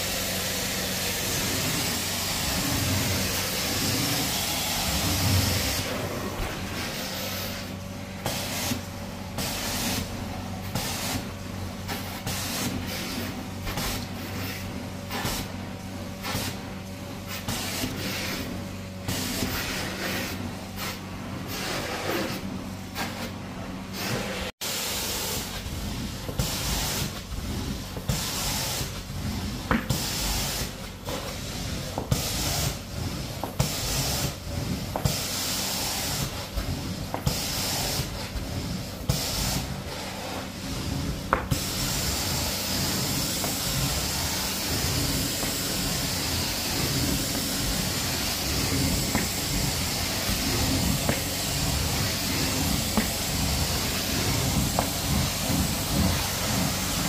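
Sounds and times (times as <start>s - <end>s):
carpet cleaning wand hissing: 0.0s - 8.8s, 9.4s - 10.1s, 10.7s - 11.3s, 11.9s - 15.6s, 16.2s - 16.7s, 17.3s - 22.4s, 24.0s - 57.0s.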